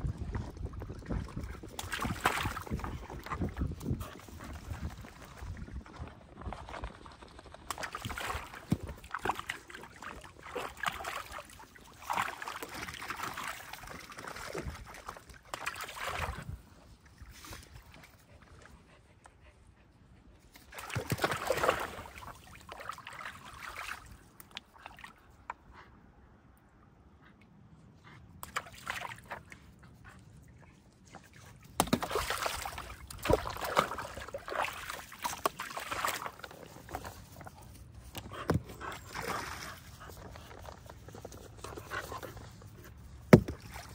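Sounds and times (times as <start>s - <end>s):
water sloshing and splashing: 0.0s - 18.8s, 20.4s - 25.7s, 28.4s - 43.9s.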